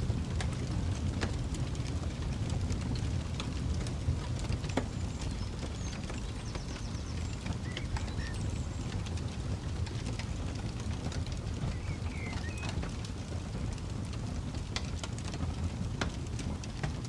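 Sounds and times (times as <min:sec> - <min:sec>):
campfire crackling: 0:00.0 - 0:17.0
steady low rumble: 0:00.0 - 0:17.0.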